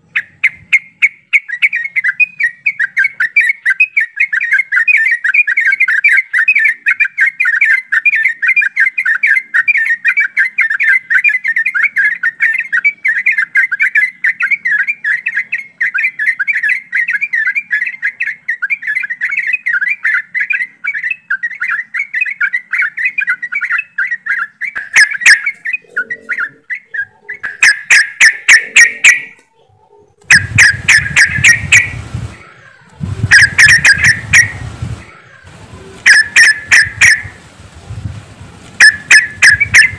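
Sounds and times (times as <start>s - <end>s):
sharp repeated bird call notes: 0.0s - 29.5s, 30.2s - 37.5s, 38.7s - 39.9s
birds chattering: 0.0s - 38.0s, 38.7s - 39.9s.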